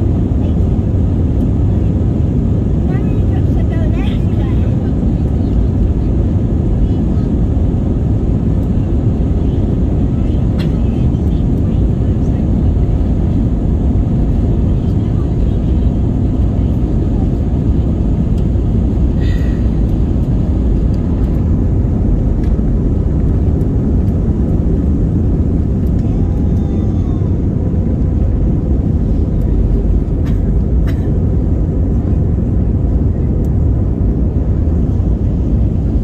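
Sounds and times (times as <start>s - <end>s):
airplane engines rumbling in cabin: 0.0s - 36.0s.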